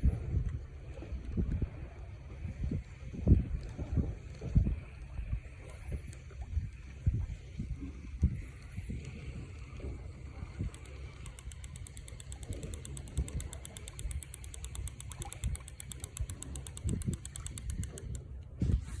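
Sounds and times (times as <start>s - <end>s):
fishing reel ticking: 2.9s - 19.0s.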